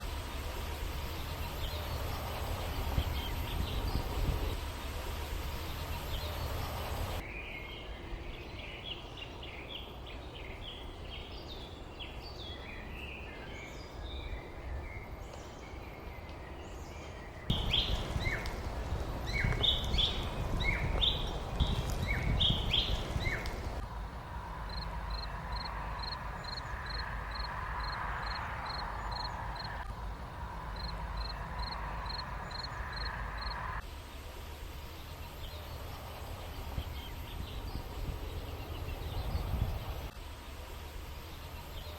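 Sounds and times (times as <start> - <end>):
low wind rumble: 0.0 - 41.9
songbirds chirping: 0.0 - 41.9.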